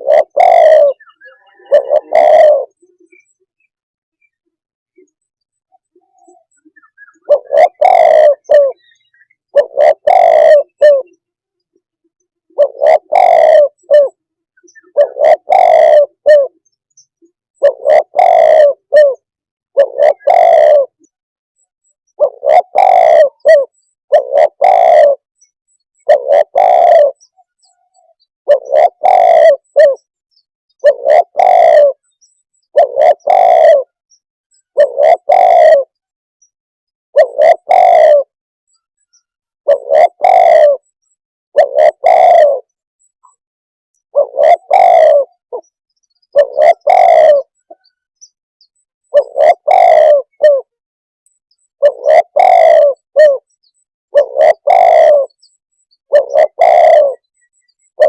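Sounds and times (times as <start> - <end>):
dove cooing: 0.0 - 3.7, 4.9 - 11.9, 12.5 - 21.2, 22.1 - 25.3, 26.0 - 30.1, 30.8 - 34.0, 34.6 - 36.1, 37.1 - 38.4, 39.2 - 43.4, 44.0 - 45.7, 46.3 - 48.0, 49.0 - 50.8, 51.8 - 58.0.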